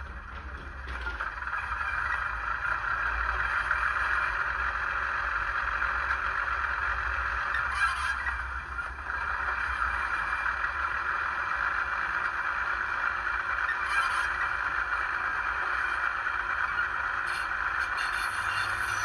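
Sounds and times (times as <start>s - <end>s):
diesel locomotive engine through small speaker: 0.0s - 19.0s.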